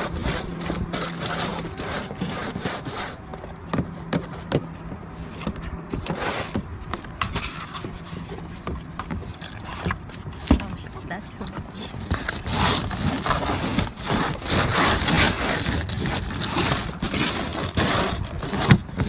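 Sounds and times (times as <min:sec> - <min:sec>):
scraping and rubbing: 0:00.0 - 0:19.0.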